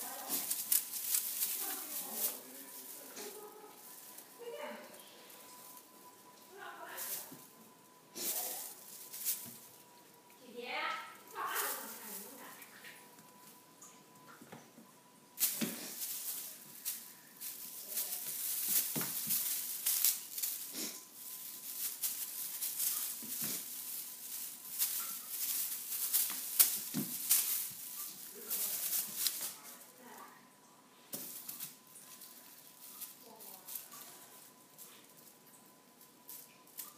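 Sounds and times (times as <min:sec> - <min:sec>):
tinsel toy crinkling and rustling: 0:00.0 - 0:14.2, 0:15.4 - 0:30.4, 0:31.1 - 0:36.9.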